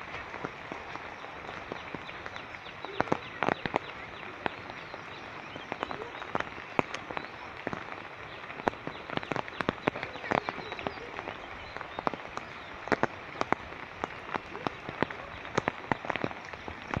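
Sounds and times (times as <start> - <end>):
rain falling: 0.0 - 17.0
sharp drips and drops: 0.0 - 17.0.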